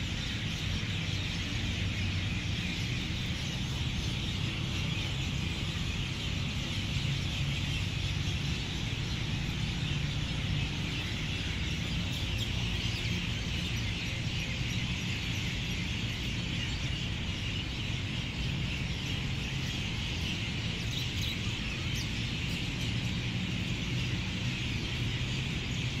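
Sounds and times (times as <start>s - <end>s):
birds chirping in chorus: 0.0s - 26.0s.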